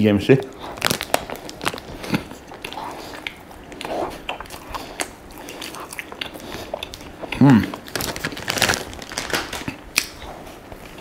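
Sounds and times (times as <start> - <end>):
person biting and chewing: 0.5 - 11.0.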